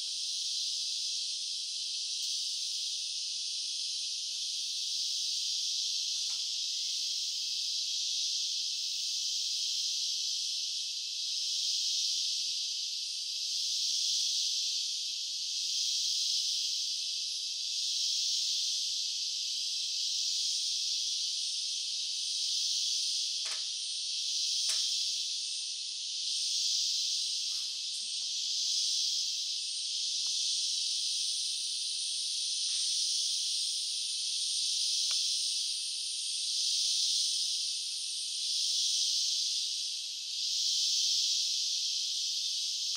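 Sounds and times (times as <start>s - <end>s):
high-pitched insect chorus buzzing: 0.0s - 42.9s.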